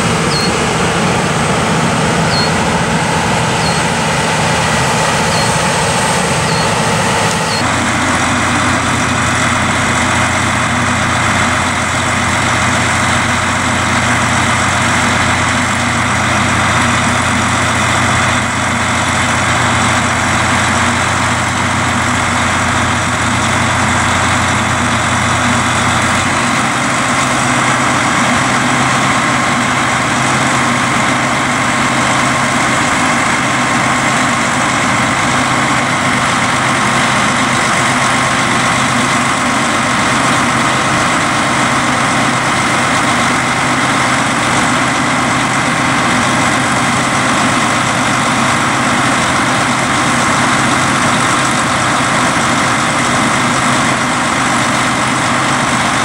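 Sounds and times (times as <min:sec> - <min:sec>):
steady whining tones: 0:00.0 - 0:55.0
diesel engine droning: 0:00.0 - 0:56.0.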